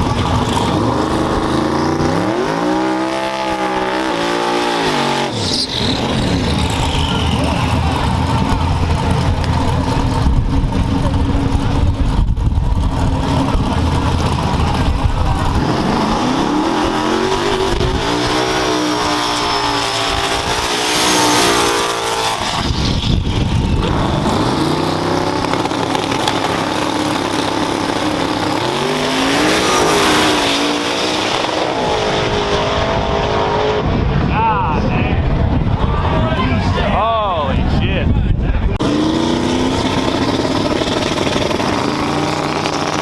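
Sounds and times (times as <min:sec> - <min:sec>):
truck engines revving: 0:00.0 - 0:43.0.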